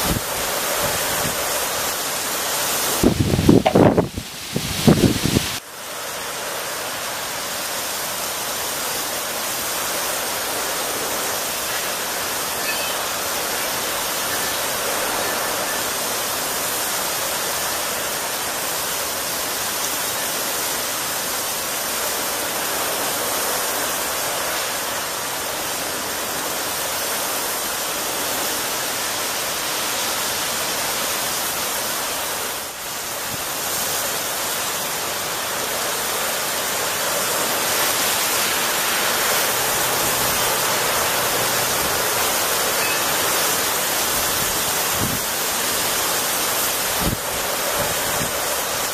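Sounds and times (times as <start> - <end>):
torrential rain pouring: 0.0 - 48.9.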